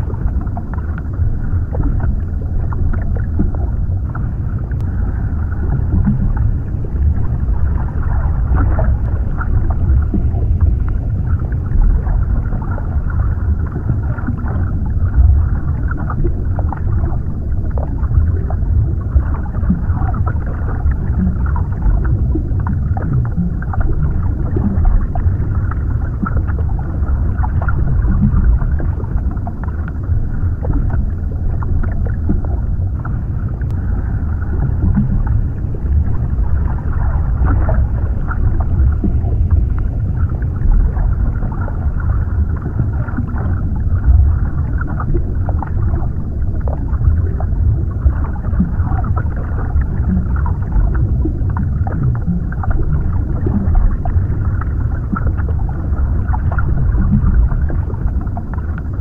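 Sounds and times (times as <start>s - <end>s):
faint crackles and clicks: 0.0s - 59.0s
muffled underwater rumble: 0.0s - 59.0s.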